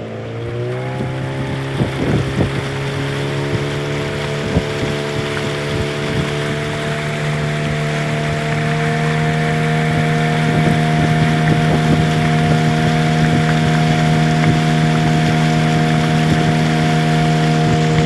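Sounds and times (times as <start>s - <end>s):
outboard motor running: 0.0s - 18.0s
water rushing past hull: 0.0s - 18.0s.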